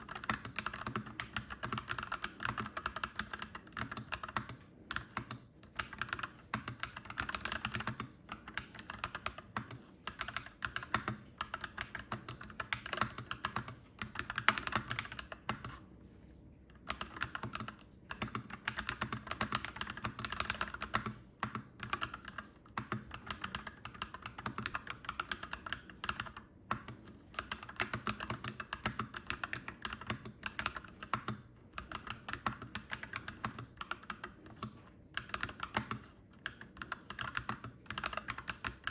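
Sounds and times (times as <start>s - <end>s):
mechanical keyboard typing: 0.0s - 15.9s, 16.6s - 38.9s.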